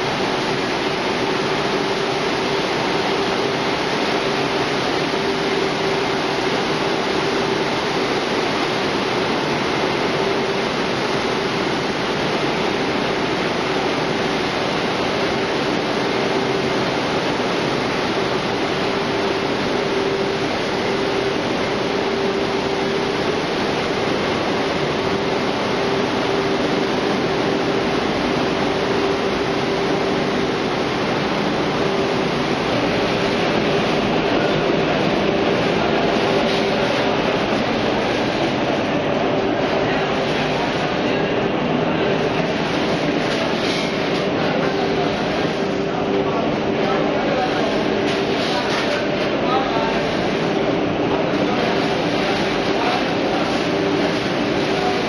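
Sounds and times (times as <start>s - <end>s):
processing machinery running: 0.0s - 55.0s.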